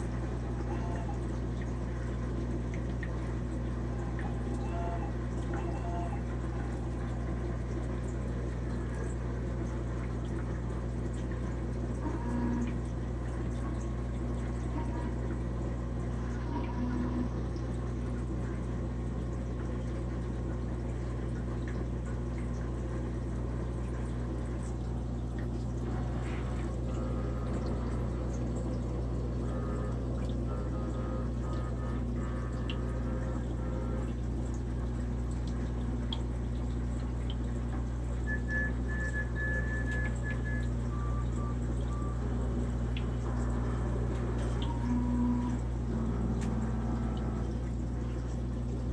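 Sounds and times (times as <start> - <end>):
low even hum: 0.0 - 48.9
moving water: 0.0 - 48.9.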